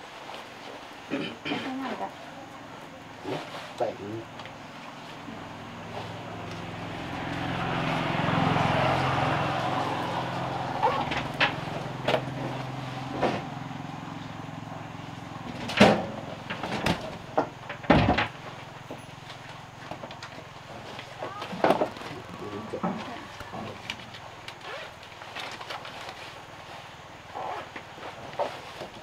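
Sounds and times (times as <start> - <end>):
vehicle engine hum: 1.1 - 29.0.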